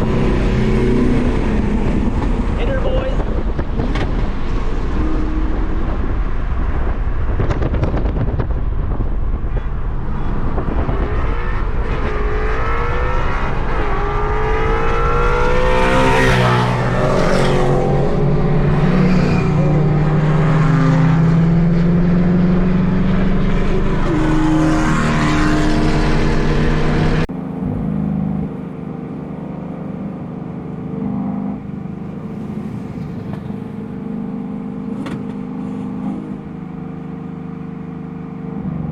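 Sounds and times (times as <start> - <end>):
car engines revving and accelerating: 0.0 - 38.9.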